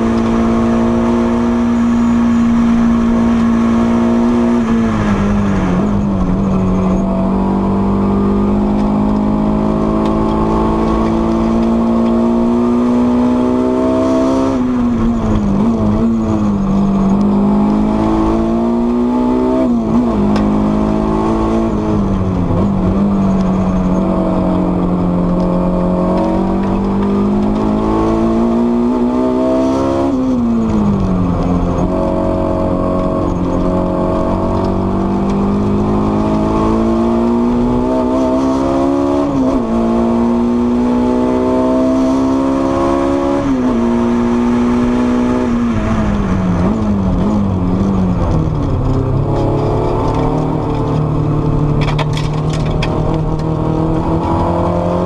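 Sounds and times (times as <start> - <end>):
supercharged car engine revving: 0.0 - 55.0.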